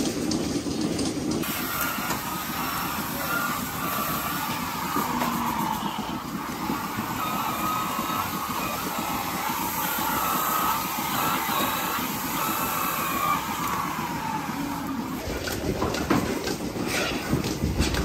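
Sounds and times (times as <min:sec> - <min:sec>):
milking machinery drone: 0:00.0 - 0:18.0.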